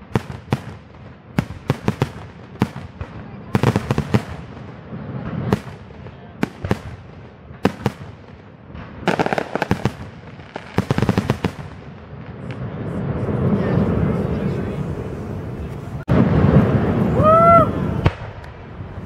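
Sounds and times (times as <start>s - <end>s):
fireworks bursting with bangs: 0.0s - 19.0s
fireworks crackling: 0.0s - 19.0s.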